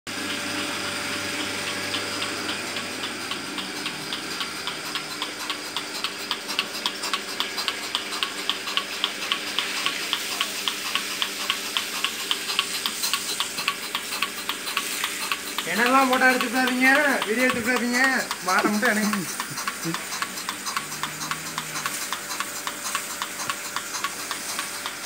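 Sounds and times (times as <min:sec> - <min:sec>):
vacuum pump humming: 0:00.1 - 0:25.0
pulsator ticking: 0:01.6 - 0:25.0.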